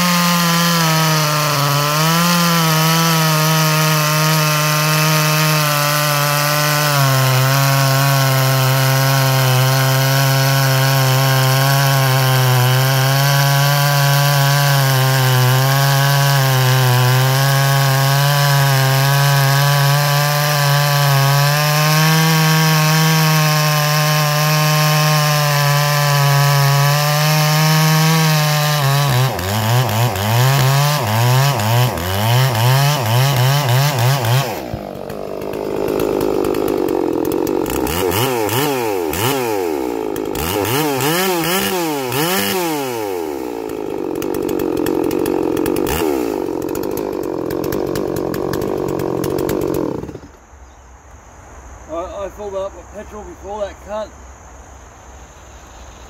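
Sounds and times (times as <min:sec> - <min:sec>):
chainsaw cutting log: 0:00.0 - 0:50.4.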